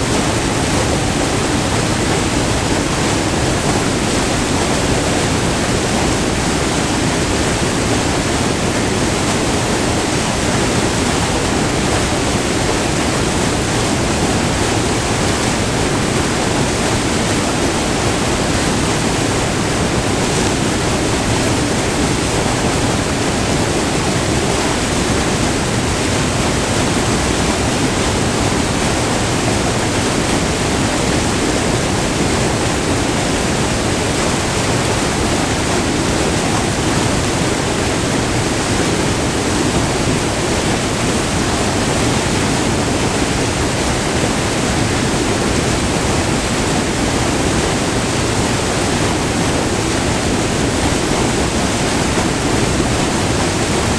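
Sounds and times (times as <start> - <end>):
waterfall roaring over rock: 0.0 - 53.9.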